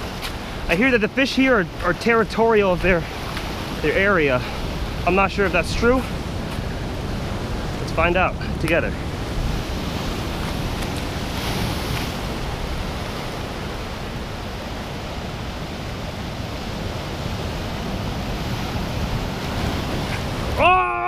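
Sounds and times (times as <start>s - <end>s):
ocean surf on rocks: 0.0s - 21.0s.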